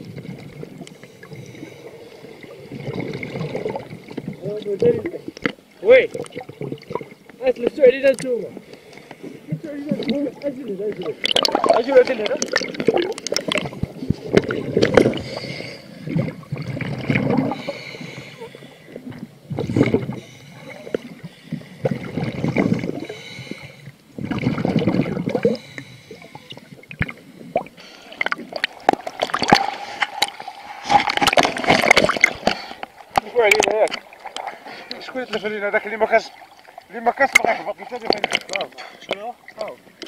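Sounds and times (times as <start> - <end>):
exhaled bubbles gurgling: 0.0 - 40.0.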